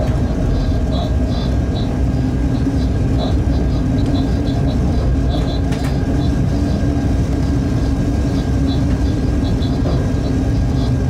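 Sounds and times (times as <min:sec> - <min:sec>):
steady hum: 0:00.0 - 0:11.0
train wheels rumbling on rail: 0:00.0 - 0:11.0.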